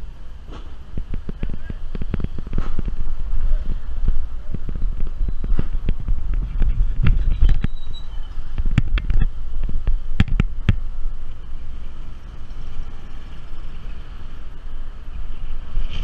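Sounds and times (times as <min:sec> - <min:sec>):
road and wind rumble: 0:00.0 - 0:16.0.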